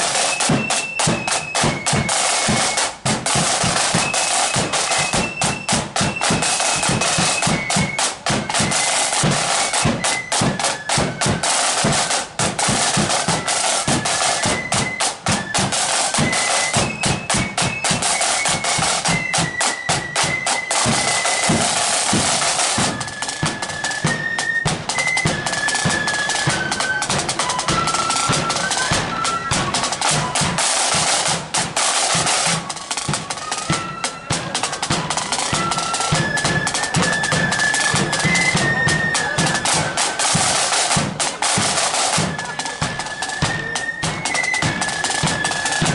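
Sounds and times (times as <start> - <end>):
massed flutes playing melody: 0.0 - 45.9
snare drum rolls: 0.0 - 45.9.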